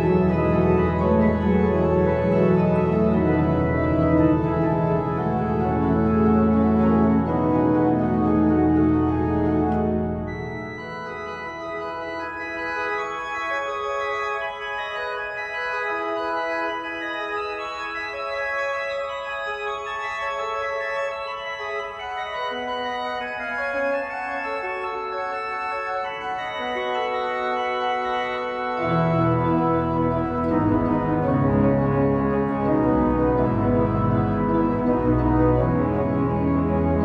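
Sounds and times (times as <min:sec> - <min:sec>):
deep organ pedal bass: 0:00.0 - 0:16.5, 0:17.1 - 0:37.0
pipe organ sustained chords: 0:00.0 - 0:37.0.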